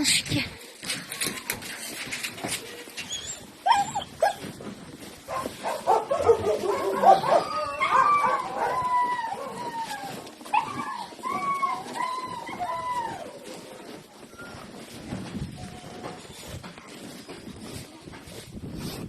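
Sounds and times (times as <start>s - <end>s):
puppies whining and yipping: 1.1s - 16.6s.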